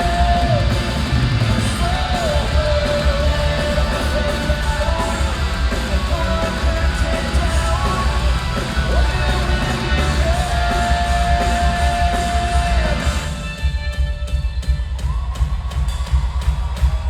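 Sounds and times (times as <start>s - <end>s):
bass guitar: 0.0s - 17.0s
distorted electric guitars: 0.0s - 17.0s
drums: 0.0s - 17.0s.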